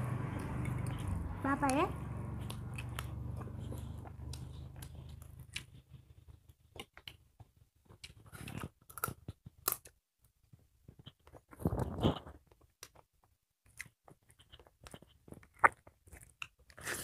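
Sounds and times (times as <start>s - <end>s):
people chewing and eating: 0.0s - 17.0s.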